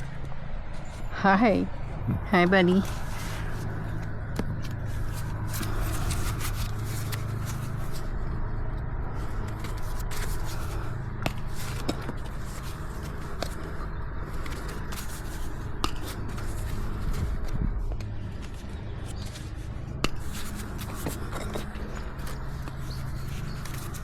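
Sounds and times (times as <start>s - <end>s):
low hum: 0.0s - 24.0s
hoof nippers scraping and clicking: 2.7s - 24.0s.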